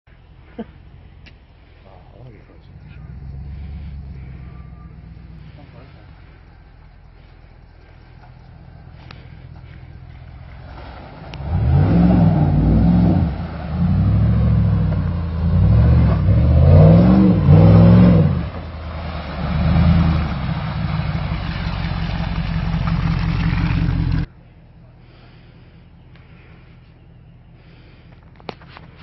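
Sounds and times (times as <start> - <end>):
car engine revving: 1.0 - 24.3.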